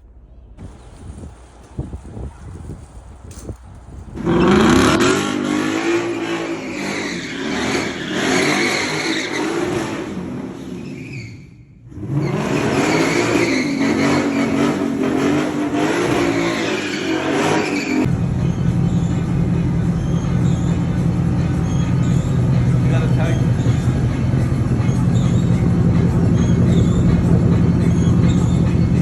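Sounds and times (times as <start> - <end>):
car engine accelerating: 0.0 - 11.2, 11.8 - 29.0.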